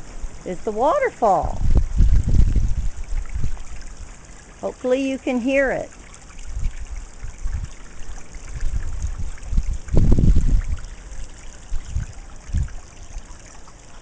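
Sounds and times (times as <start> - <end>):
low rumble on microphone: 0.0 - 4.4, 6.3 - 14.0
water splashing over rocks: 0.7 - 14.0.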